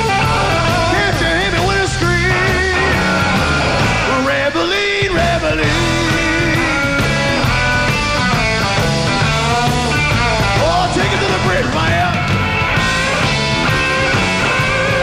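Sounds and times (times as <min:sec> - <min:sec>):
electric guitar lead: 0:00.0 - 0:15.0
rock band playing: 0:00.0 - 0:15.0.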